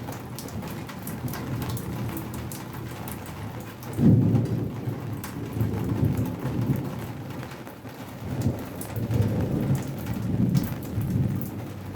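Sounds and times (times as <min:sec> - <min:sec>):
rain falling: 0:00.0 - 0:11.9.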